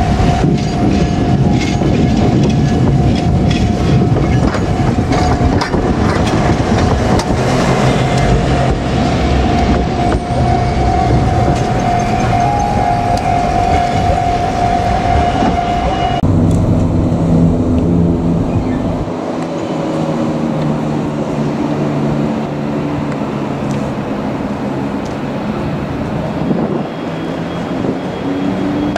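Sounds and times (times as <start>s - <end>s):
heavy vehicles passing: 0.0s - 28.9s.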